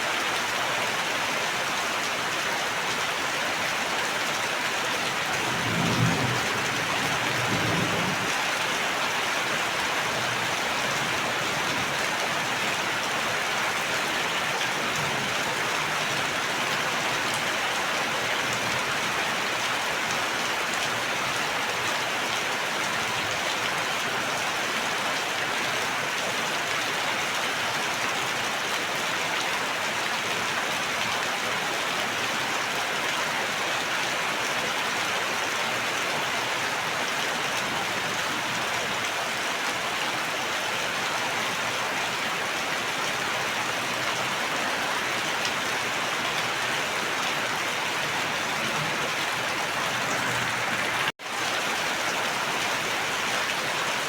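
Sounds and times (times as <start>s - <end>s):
rain pattering: 0.1s - 54.0s.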